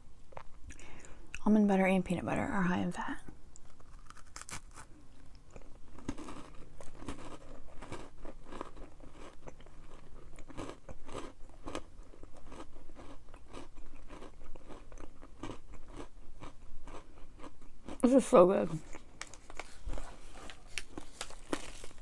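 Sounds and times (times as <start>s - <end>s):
chewing crunchy granola: 3.6s - 22.0s.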